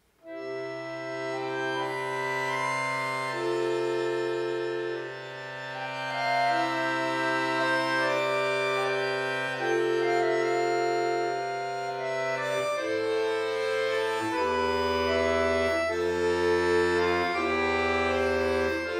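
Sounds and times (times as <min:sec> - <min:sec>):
accordion playing slow piece: 0:00.2 - 0:18.9.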